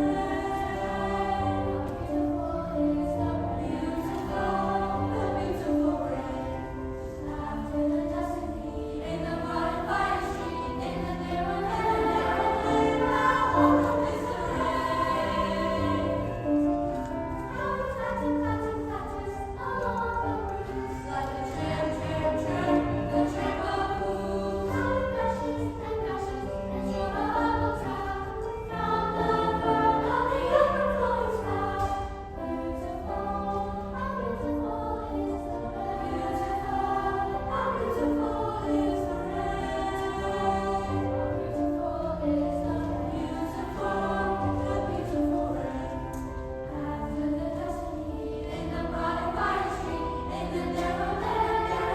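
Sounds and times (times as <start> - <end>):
children's choir singing: 0.0 - 51.9
instrumental accompaniment: 0.0 - 51.9.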